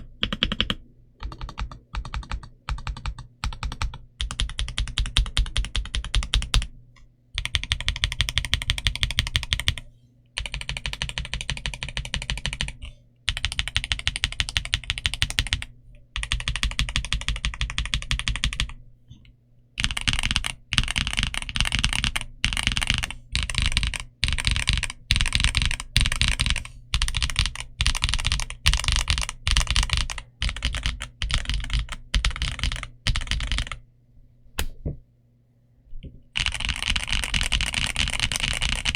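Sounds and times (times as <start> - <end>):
mechanical keyboard typing: 0.0 - 6.7, 7.4 - 9.8, 10.4 - 18.8, 19.8 - 33.8, 36.4 - 38.9.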